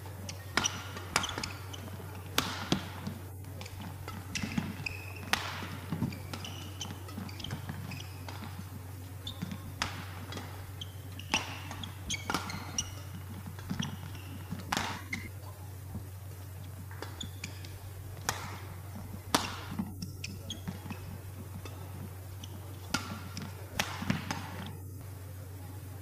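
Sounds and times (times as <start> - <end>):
steady low hum: 0.0 - 26.0
shoes squeaking on court: 0.1 - 24.8
rackets striking shuttlecock: 0.3 - 15.3, 16.9 - 24.7.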